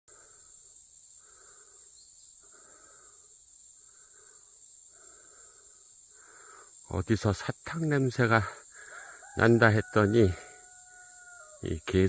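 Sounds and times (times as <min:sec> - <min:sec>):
high-pitched insect chorus: 0:00.1 - 0:12.0.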